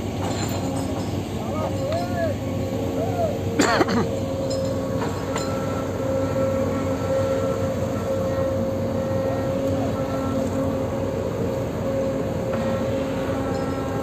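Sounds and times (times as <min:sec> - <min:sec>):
excavator diesel engine running: 0:00.0 - 0:14.0
faint high whine: 0:00.1 - 0:14.0.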